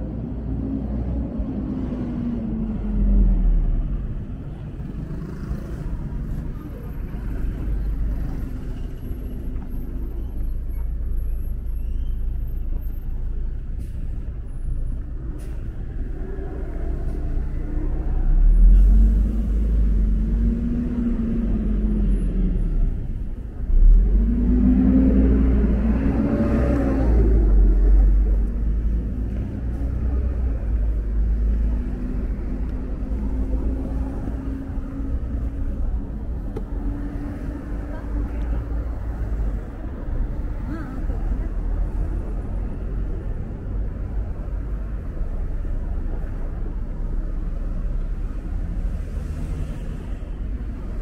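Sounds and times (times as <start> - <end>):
rumble of passing vehicles: 0.0 - 51.0.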